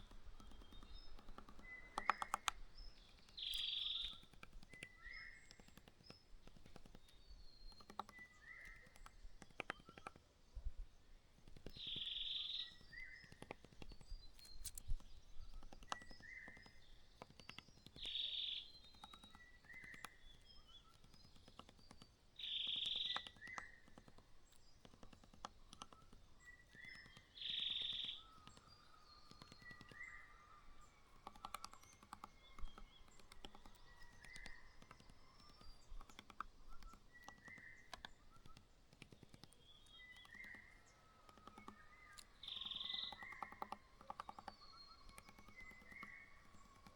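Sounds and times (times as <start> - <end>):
light clicks: 0.0 - 10.2, 11.4 - 46.9
small birds chirping: 0.0 - 46.9.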